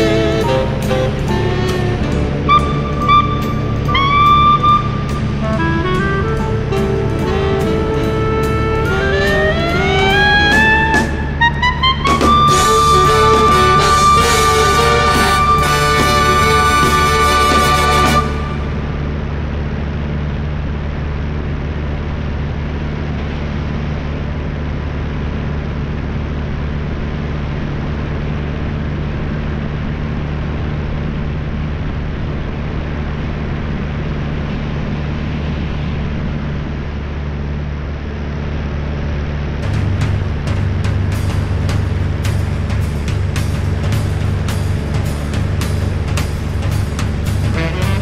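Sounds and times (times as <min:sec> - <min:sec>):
biplane engine and propeller droning: 0:00.0 - 0:48.0.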